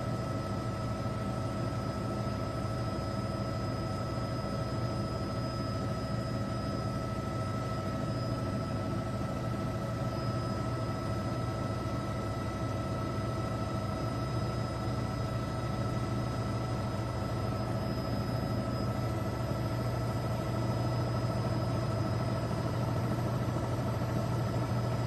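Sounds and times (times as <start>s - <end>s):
helicopter engine and rotors droning: 0.0s - 25.0s.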